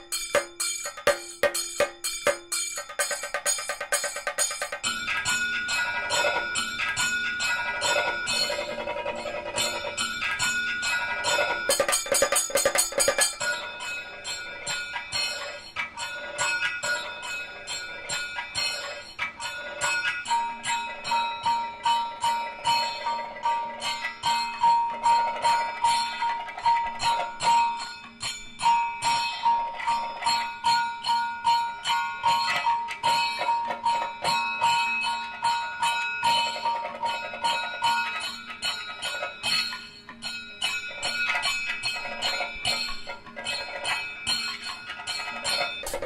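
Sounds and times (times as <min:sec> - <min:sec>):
bells and metallic percussion: 0:00.0 - 0:46.0
music: 0:00.0 - 0:46.0.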